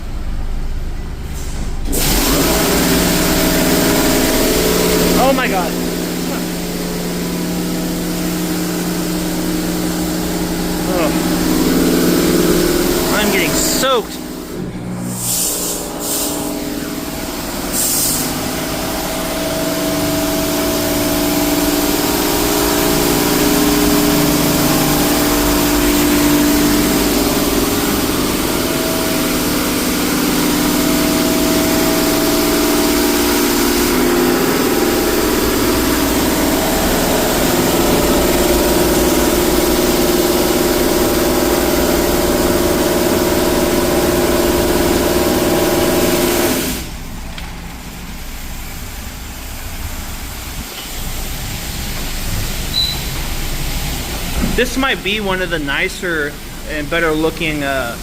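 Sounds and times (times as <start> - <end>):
machinery hum: 0.0 - 58.0
high-pressure water spray hissing: 1.9 - 14.6, 15.2 - 47.0, 47.8 - 55.4.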